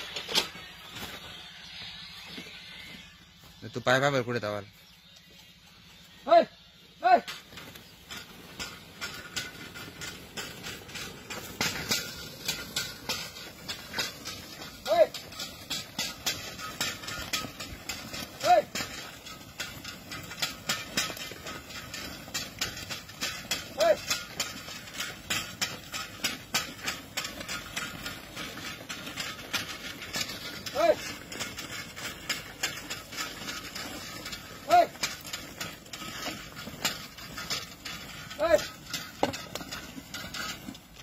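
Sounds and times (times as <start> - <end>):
implement clattering and crackling: 0.0 - 41.0
irregular clicking and rustling: 0.0 - 41.0.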